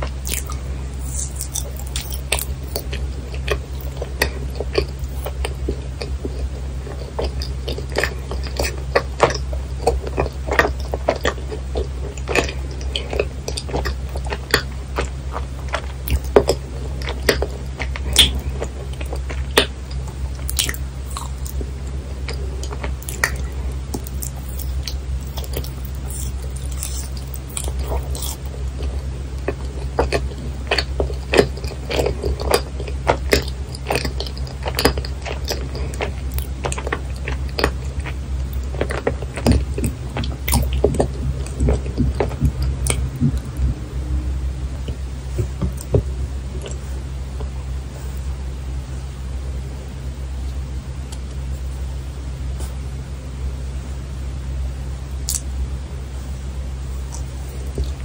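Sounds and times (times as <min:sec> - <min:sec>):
mouth chewing: 0:00.0 - 0:48.4, 0:55.2 - 0:55.5, 0:56.9 - 0:58.0
steady low hum: 0:00.0 - 0:58.0.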